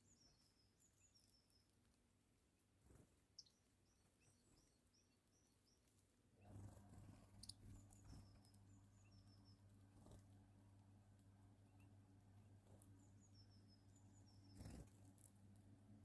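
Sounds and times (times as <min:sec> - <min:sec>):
small bird chirping: 0:00.0 - 0:02.1, 0:02.8 - 0:16.0
low steady hum: 0:00.0 - 0:16.0.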